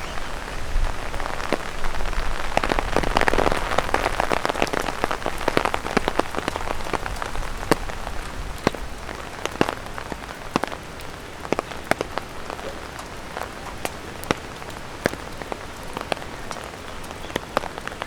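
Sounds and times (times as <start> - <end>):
light rain falling: 0.0 - 18.0
drops tapping on an umbrella: 2.5 - 18.0.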